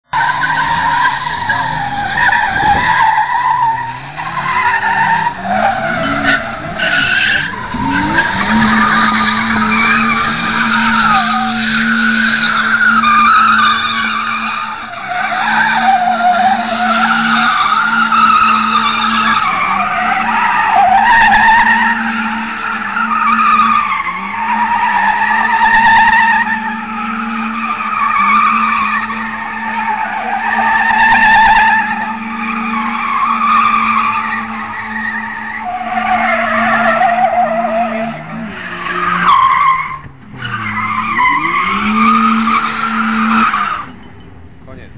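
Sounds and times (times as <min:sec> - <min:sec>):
car engine revving: 0:00.0 - 0:44.9
tyres squealing: 0:00.1 - 0:44.5.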